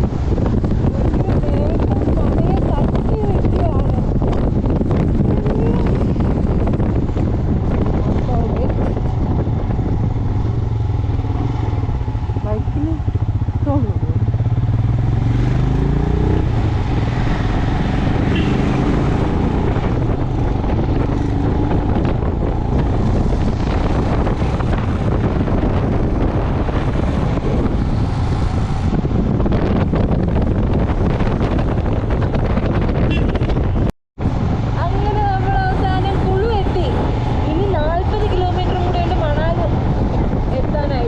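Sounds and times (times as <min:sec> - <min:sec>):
motorcycle engine running: 0:00.0 - 0:41.0
wind rushing over microphone: 0:00.0 - 0:41.0.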